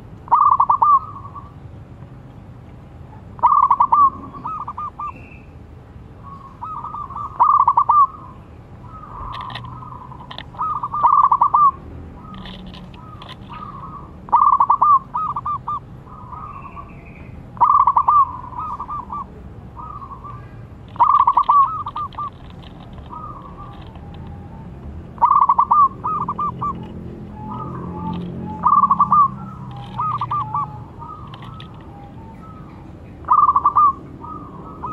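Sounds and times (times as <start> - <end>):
dove rapid cooing: 0.3 - 1.5, 3.4 - 5.1, 6.4 - 16.9, 17.6 - 34.9
faint bird chirps: 3.4 - 5.6, 6.2 - 34.9.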